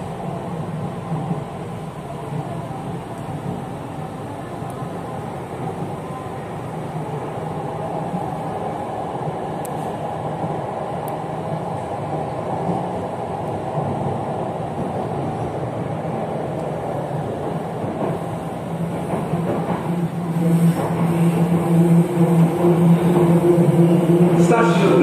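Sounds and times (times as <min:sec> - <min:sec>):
train rumble and hum: 0:00.0 - 0:25.0.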